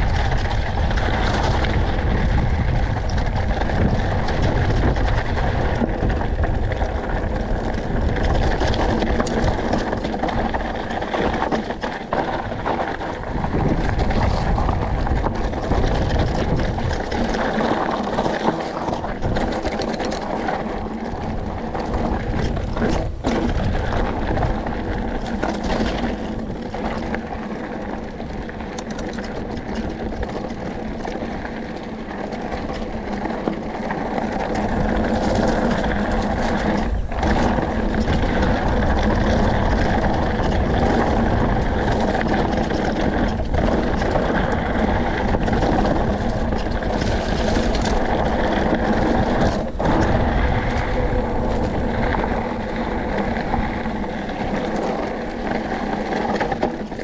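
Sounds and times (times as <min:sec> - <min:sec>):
tyre rumble on gravel: 0:00.0 - 0:57.0
wind rushing over microphone: 0:00.0 - 0:57.0.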